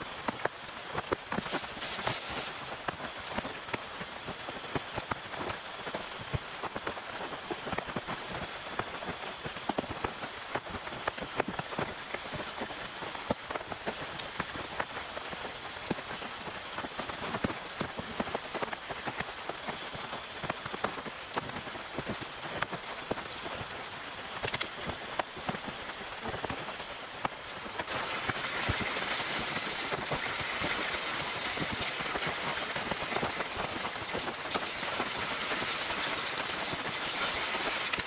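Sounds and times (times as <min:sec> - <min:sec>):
rain on a tent: 0:00.0 - 0:38.0.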